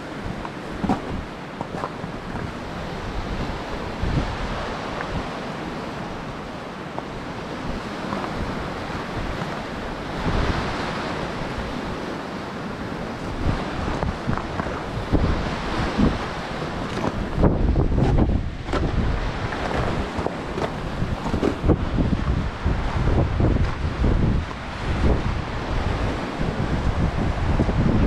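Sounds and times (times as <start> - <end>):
wind blowing across microphone: 0.0 - 28.0.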